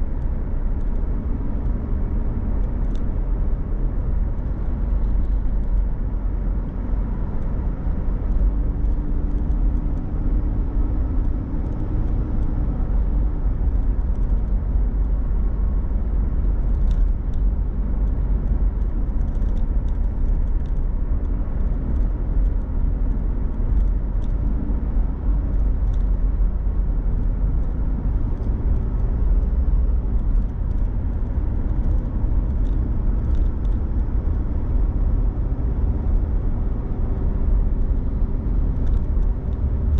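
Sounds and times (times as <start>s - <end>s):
car engine and road rumble: 0.0s - 39.9s
faint engine hum: 0.0s - 39.9s.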